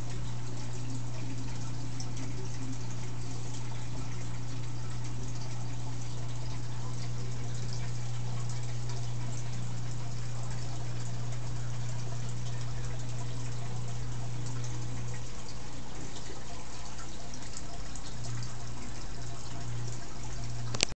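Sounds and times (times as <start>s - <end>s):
filter motor hum: 0.0s - 20.9s
water splashing and trickling: 0.0s - 20.9s.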